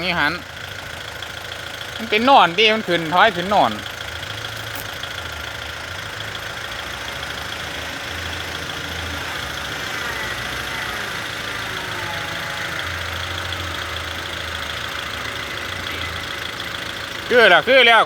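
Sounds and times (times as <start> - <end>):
earthmoving machine engine humming: 0.0 - 18.0.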